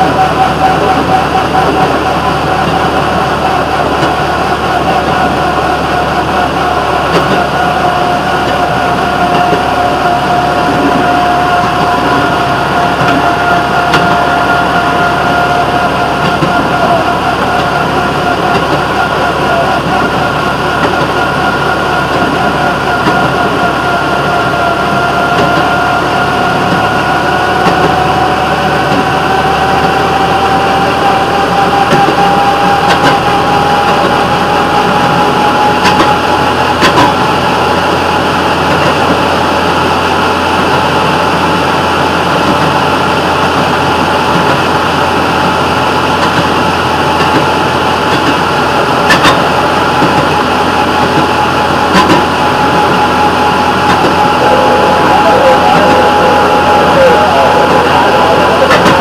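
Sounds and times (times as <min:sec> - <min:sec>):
rail motorcar engine whining: 0:00.0 - 0:59.0.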